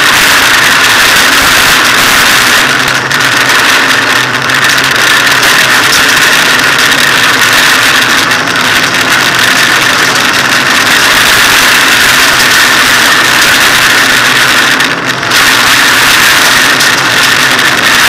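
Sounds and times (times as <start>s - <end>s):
rally car engine running hard: 0.0s - 18.0s.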